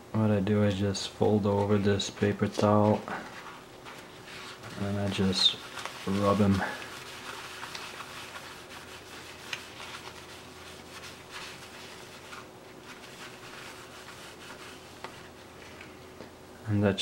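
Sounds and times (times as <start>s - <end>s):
paper towel rustling: 0.6s - 16.2s.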